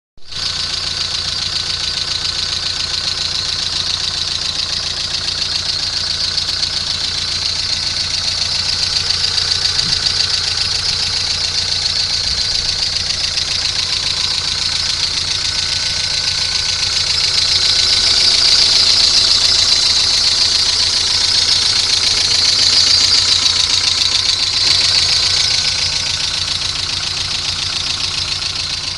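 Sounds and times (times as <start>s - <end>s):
car engine idling: 0.2s - 28.9s.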